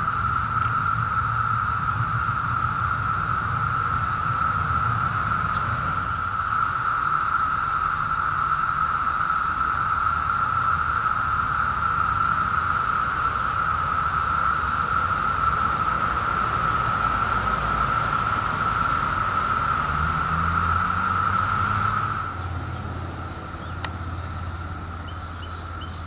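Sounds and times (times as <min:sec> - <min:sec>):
cicadas droning: 0:00.0 - 0:26.0.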